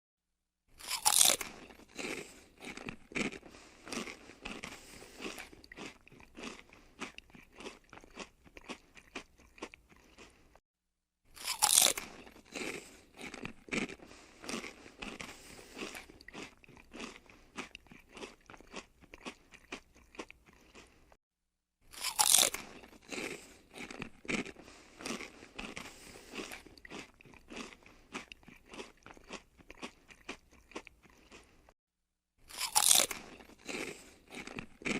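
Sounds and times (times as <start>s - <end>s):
chewing crispy chips: 0.8s - 10.6s, 11.3s - 21.2s, 21.9s - 31.8s, 32.4s - 34.9s.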